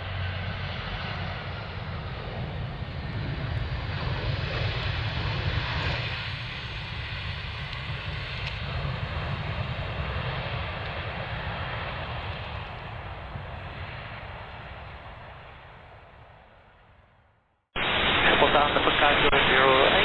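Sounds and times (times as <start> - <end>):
jet engine rumble and hiss: 0.0 - 17.0, 17.8 - 20.0.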